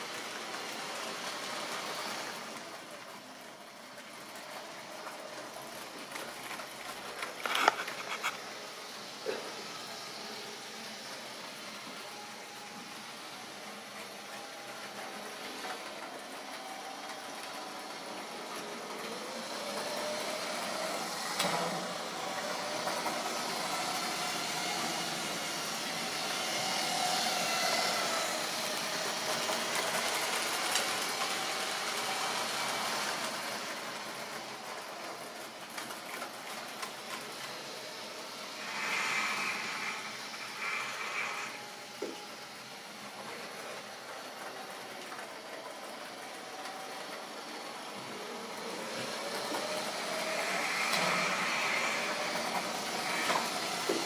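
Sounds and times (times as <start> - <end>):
model train rumbling on track: 0.0 - 54.0.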